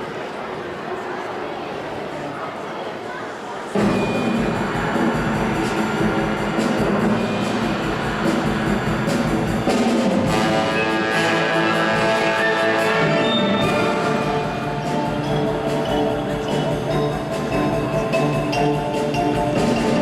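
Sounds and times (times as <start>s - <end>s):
orchestra playing: 3.8s - 20.0s.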